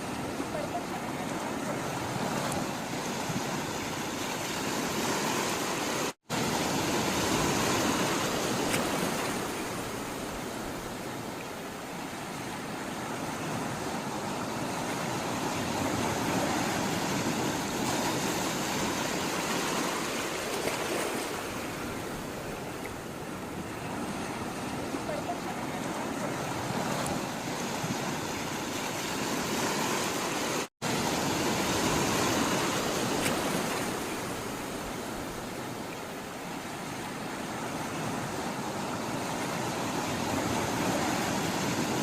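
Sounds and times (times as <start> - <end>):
sea water rushing: 0.0 - 42.0.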